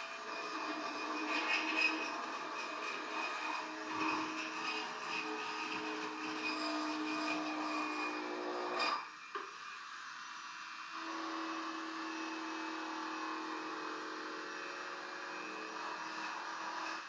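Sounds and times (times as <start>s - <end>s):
power tool grinding wood: 0.0s - 9.7s, 10.9s - 17.0s.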